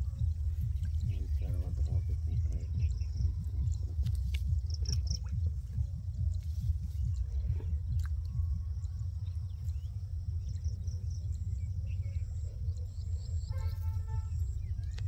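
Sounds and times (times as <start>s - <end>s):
birds chirping: 0.0s - 15.0s
insects chirping: 0.0s - 15.0s
steady low rumble: 0.0s - 15.0s.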